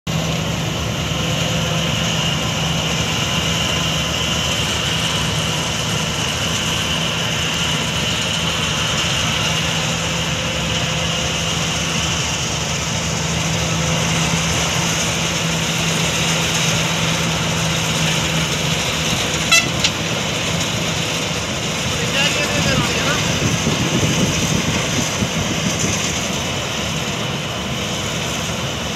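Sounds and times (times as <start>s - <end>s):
combine harvester machinery drone: 0.1s - 28.9s.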